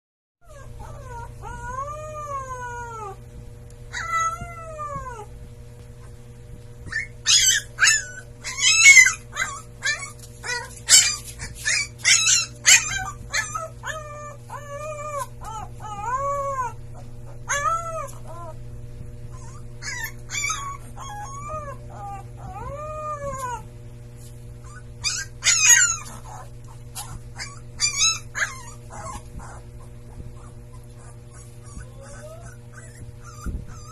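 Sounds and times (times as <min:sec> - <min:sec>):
puppy howling and yipping: 0:00.4 - 0:03.2, 0:03.9 - 0:05.3, 0:06.8 - 0:18.6, 0:19.3 - 0:23.7, 0:24.6 - 0:33.9
steady low hum: 0:00.4 - 0:33.9.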